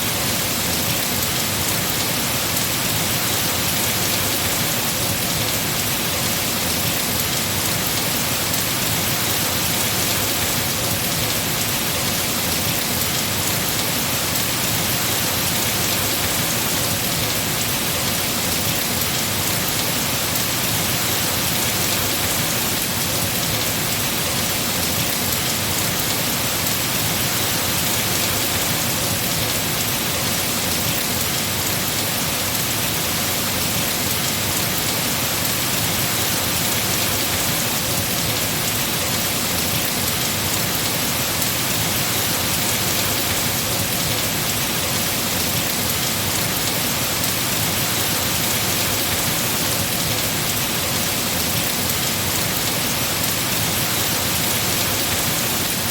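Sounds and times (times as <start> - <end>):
heavy rain on trees: 0.0 - 55.9.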